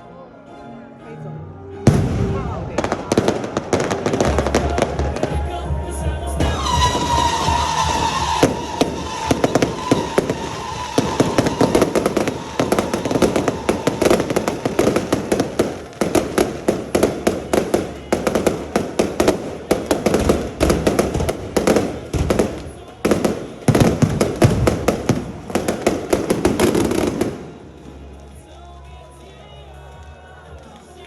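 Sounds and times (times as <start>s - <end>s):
fireworks crackling and banging: 1.9s - 28.9s.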